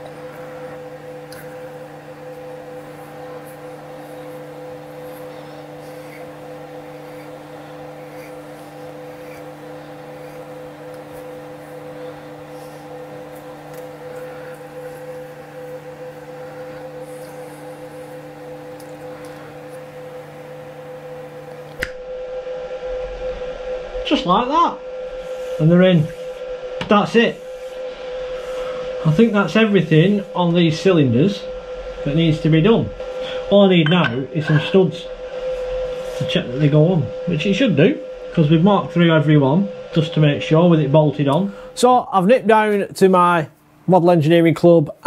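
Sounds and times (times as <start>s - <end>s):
machine hum with fixed tones: 0.0s - 45.0s.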